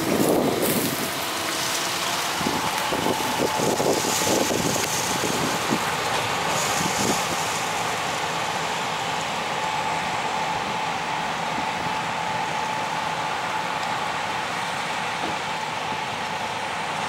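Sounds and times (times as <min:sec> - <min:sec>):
faint machinery whine: 0:00.0 - 0:17.0
tractor engine running: 0:00.0 - 0:17.0.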